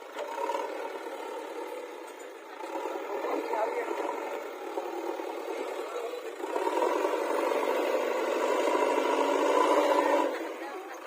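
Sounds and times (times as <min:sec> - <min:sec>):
engine running with rattle: 0:00.0 - 0:11.0.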